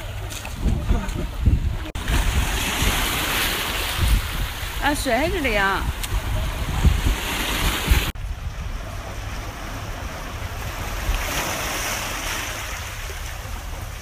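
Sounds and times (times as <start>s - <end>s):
waves splashing over rocks: 0.0s - 14.0s
wind buffeting microphone: 0.0s - 14.0s.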